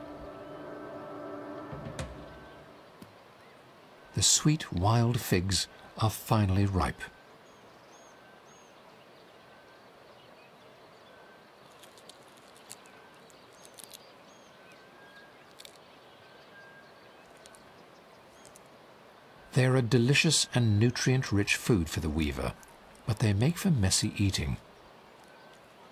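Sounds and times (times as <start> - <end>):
steady low hiss: 0.0 - 25.9.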